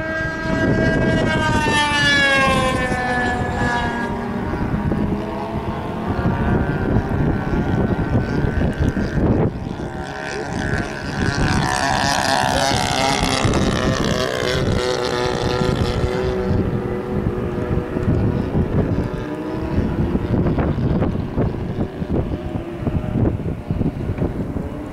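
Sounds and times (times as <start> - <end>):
model airplane engine passing: 0.0 - 24.9
wind buffeting microphone: 0.0 - 24.9.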